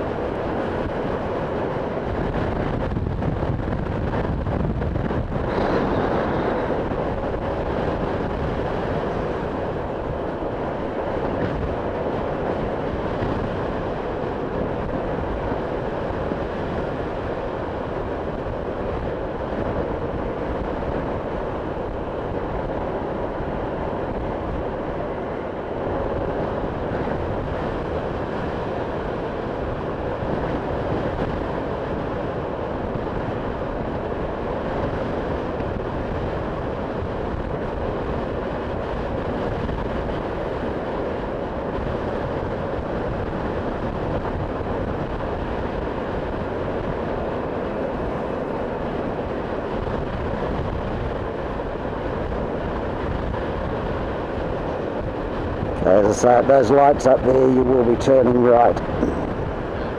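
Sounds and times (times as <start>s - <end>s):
road noise: 0.0s - 59.9s
wind rush on microphone: 0.0s - 59.9s.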